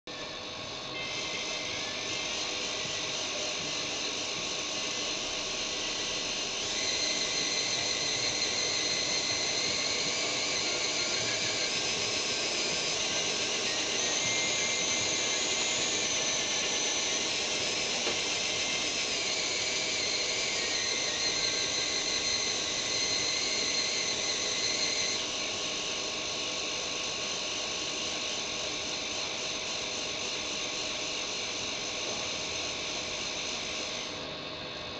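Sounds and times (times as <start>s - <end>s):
high-pitched motor whine: 0.1s - 34.9s.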